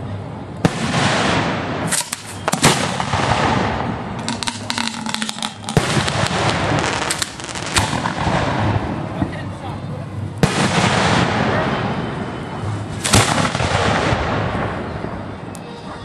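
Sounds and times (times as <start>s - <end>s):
firework reports: 0.0s - 16.0s
loud firework bangs: 0.6s - 9.6s, 10.4s - 15.4s
fireworks crackling and hissing: 0.6s - 15.9s.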